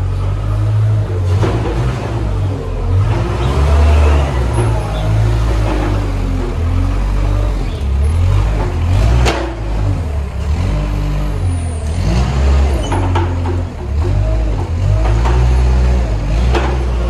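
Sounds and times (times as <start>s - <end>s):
loader diesel engine revving: 0.0s - 17.0s.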